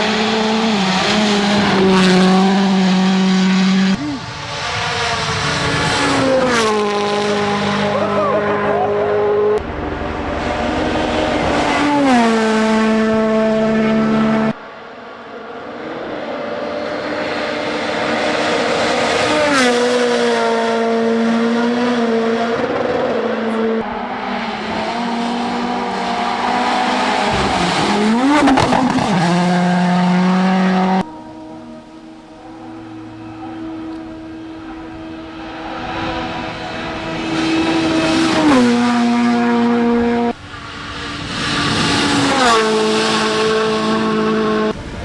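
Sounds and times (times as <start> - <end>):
car passing close: 0.0 - 45.0
rally car engines at full throttle: 0.0 - 45.0.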